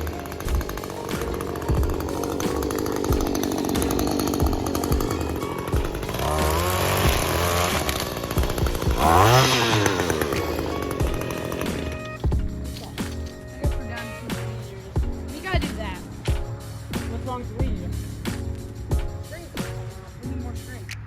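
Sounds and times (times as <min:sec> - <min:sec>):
string trimmer running and revving: 0:00.0 - 0:19.8.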